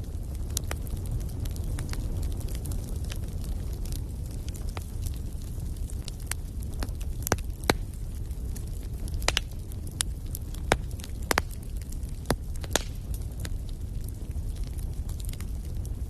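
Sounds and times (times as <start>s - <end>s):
fire crackling in a fireplace: 0.0s - 16.0s.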